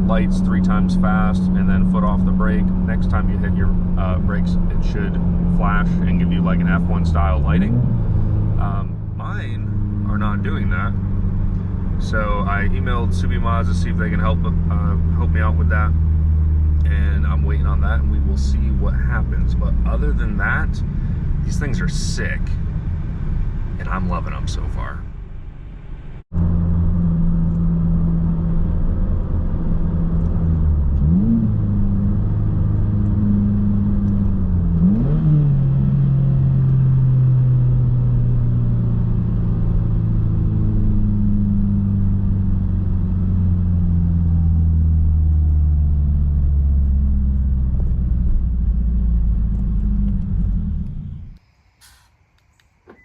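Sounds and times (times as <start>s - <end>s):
turbocharged car engine running: 0.0s - 52.0s.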